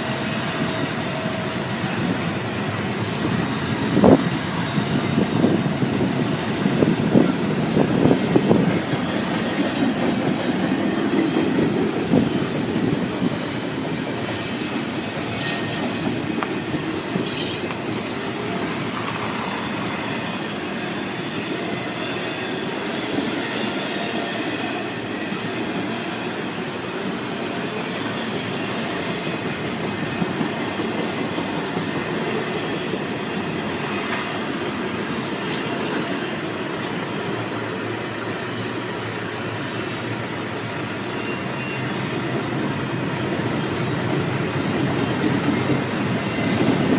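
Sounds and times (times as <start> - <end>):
freight train wheels rumbling on rails: 0.0 - 46.9
high wheel squeal: 0.0 - 46.9.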